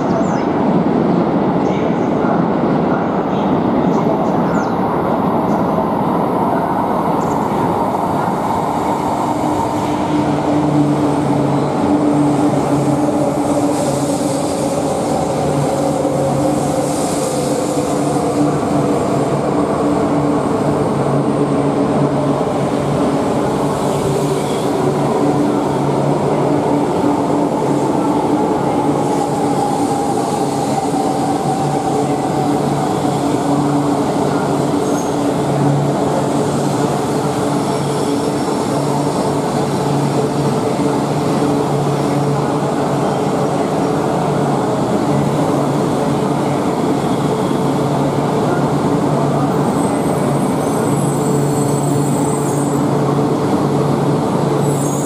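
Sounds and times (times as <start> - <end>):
train low hum: 0.0 - 55.0.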